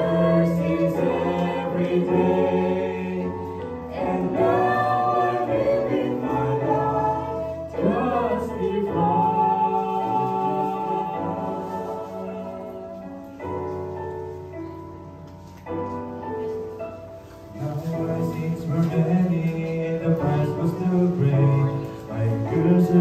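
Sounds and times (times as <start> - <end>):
gospel instrumental held chords: 0.0 - 23.0.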